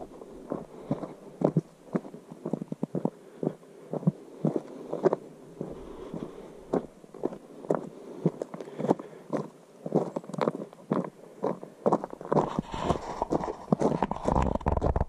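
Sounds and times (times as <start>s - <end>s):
footsteps on a path: 0.0s - 15.0s.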